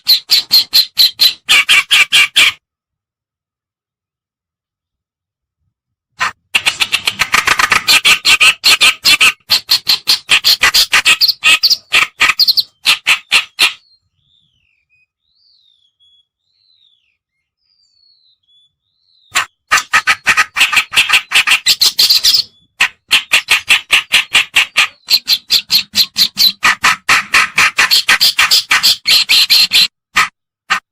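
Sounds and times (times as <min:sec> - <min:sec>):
reed warbler scratchy song: 0:00.0 - 0:02.6, 0:06.2 - 0:30.9.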